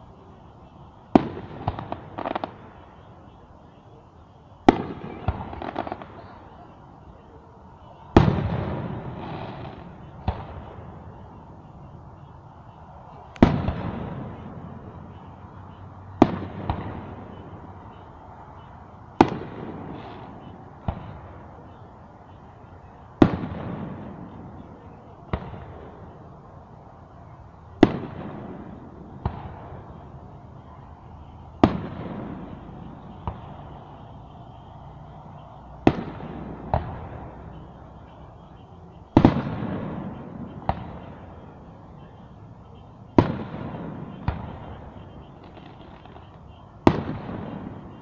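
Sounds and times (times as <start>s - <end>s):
firework bangs echoing: 1.0s - 3.9s, 4.6s - 7.2s, 7.9s - 11.9s, 13.4s - 21.8s, 23.2s - 26.3s, 27.8s - 48.0s.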